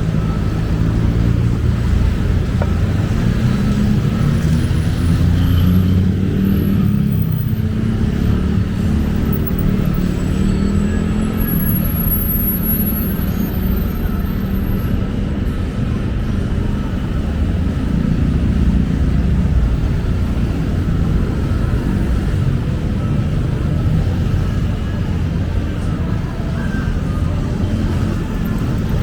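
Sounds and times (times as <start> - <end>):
city road traffic rumble: 0.0 - 29.0.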